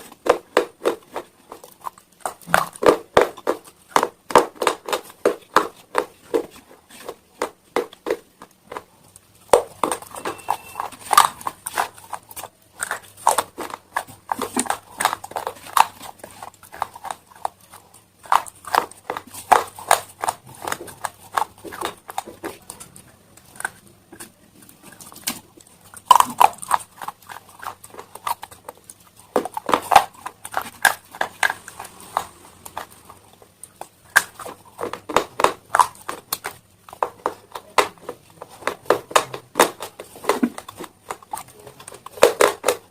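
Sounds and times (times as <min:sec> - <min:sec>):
chewing crunchy stone: 0:00.0 - 0:42.9.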